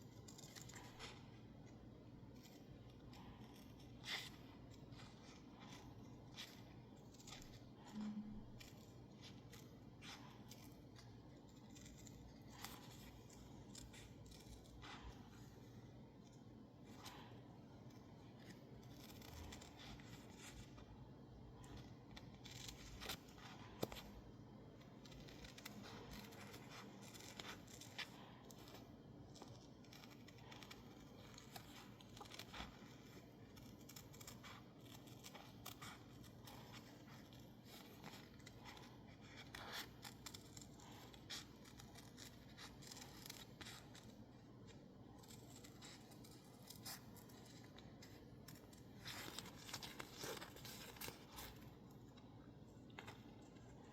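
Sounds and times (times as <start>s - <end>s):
scissors snipping paper: 0.0s - 53.9s
scratchy paper strokes: 0.0s - 53.9s.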